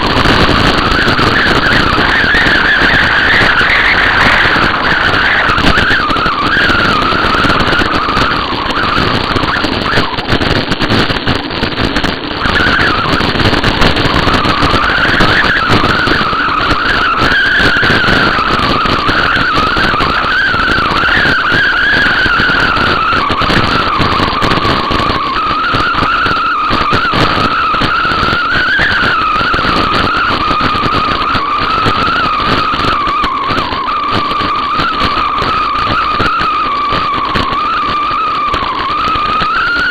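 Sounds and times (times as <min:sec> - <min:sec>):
high wavering whistle: 0:00.0 - 0:39.9
wind and tyre noise: 0:00.0 - 0:39.9.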